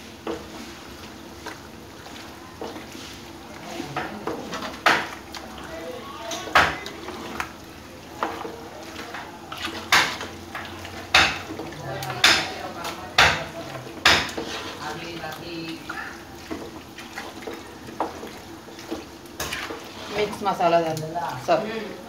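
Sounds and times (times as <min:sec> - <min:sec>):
soft mixing sounds: 0:00.0 - 0:22.0.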